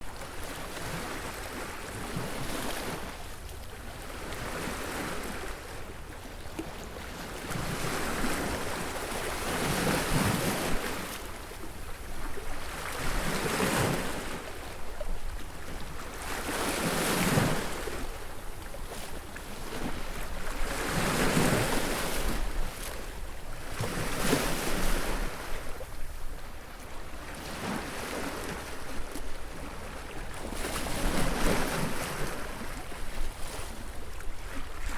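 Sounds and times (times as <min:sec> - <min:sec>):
sea waves breaking on a beach: 0:00.0 - 0:34.9.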